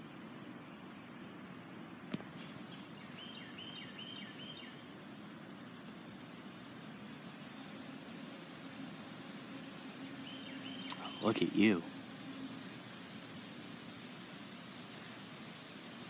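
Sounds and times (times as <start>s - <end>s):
outdoor background noise: 0.0s - 16.0s
bird chirps: 1.3s - 16.0s.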